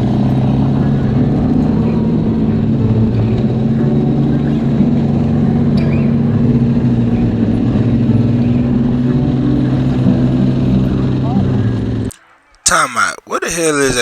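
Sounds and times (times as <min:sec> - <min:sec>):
atv engine running: 0:00.0 - 0:12.1.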